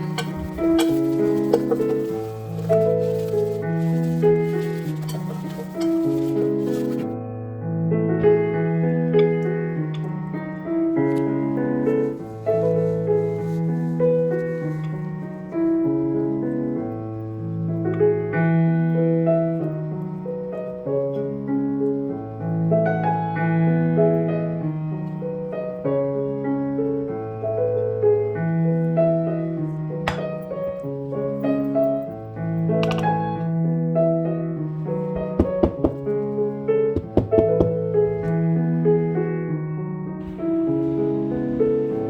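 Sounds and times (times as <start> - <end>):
slow piano chords: 0.0 - 42.0.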